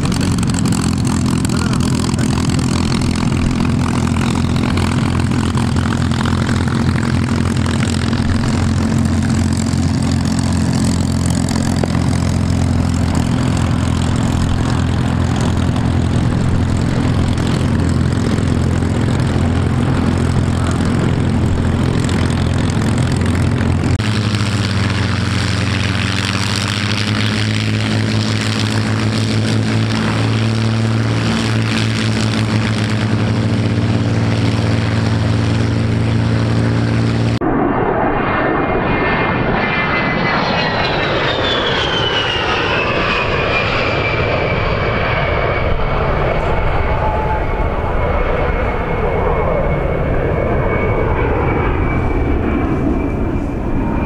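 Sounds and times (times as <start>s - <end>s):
piston aircraft engines running: 0.0s - 54.0s.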